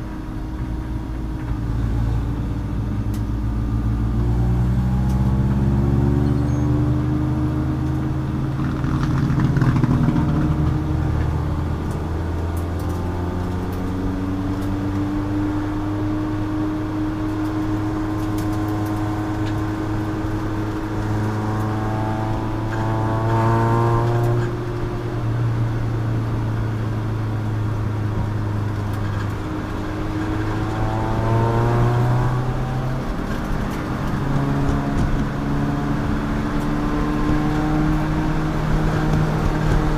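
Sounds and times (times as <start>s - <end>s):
race car engine revving: 1.9s - 39.9s.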